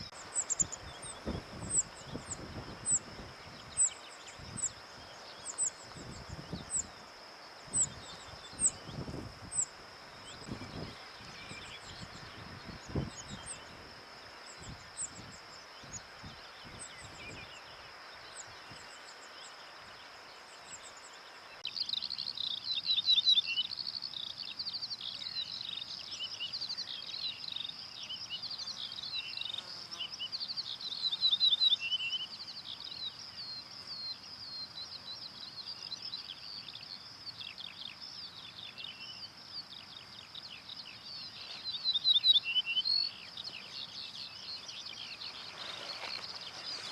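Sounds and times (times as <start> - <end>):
birds chirping song: 0.0 - 46.9
high insect trill: 0.0 - 46.9.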